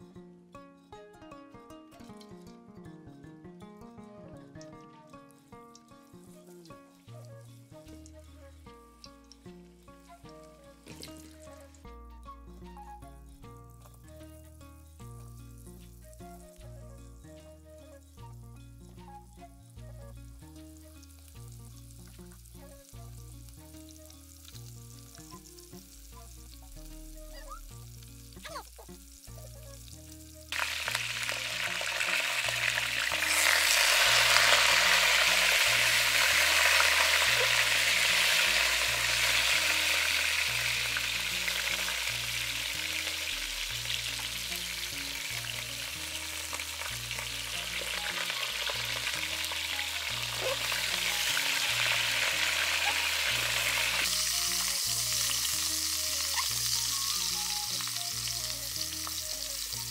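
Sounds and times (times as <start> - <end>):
soft background music: 0.0 - 59.9
potatoes sizzling in a pot: 4.6 - 59.9.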